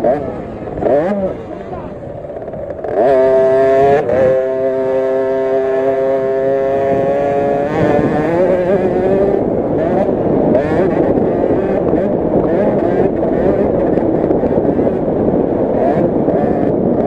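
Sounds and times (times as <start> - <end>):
two-stroke minibike engine revving: 0.0 - 17.0.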